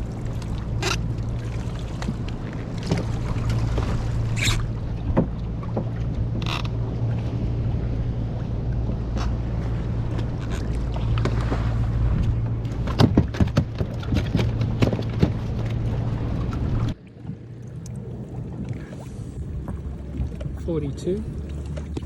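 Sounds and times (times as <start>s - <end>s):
water slapping against hull: 0.0s - 22.0s.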